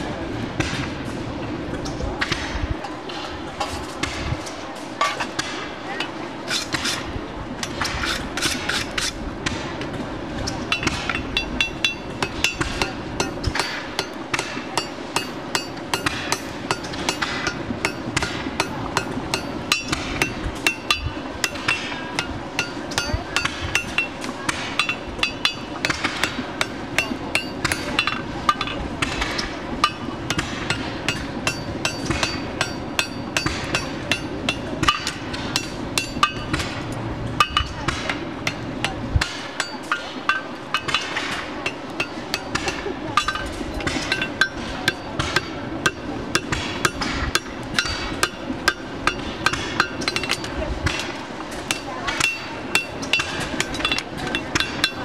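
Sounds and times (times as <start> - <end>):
hammer blows on anvil: 10.7 - 55.0.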